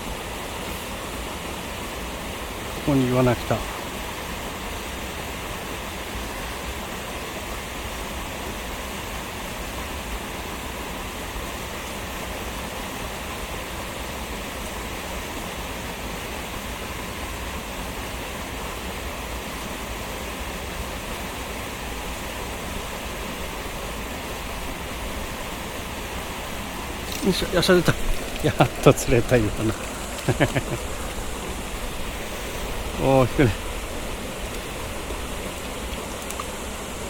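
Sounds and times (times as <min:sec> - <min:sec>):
river current rushing: 0:00.0 - 0:37.0.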